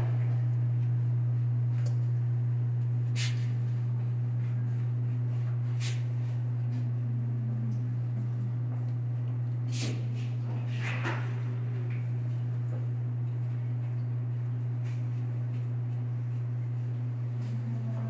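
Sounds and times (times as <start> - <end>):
kitchen equipment humming: 0.0 - 18.0.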